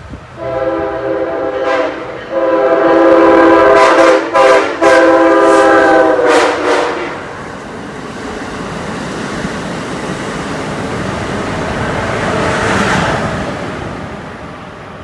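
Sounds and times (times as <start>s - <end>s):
train rushing past: 0.0s - 15.0s.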